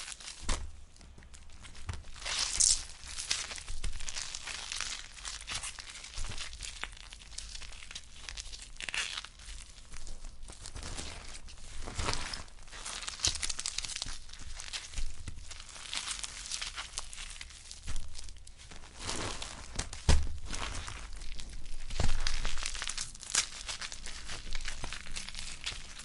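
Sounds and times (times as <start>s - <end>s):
gore tearing and crackling: 0.0s - 26.0s.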